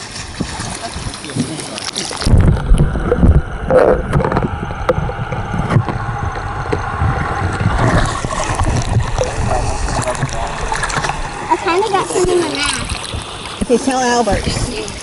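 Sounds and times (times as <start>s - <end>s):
wind rumbling on microphone: 2.2s - 15.0s.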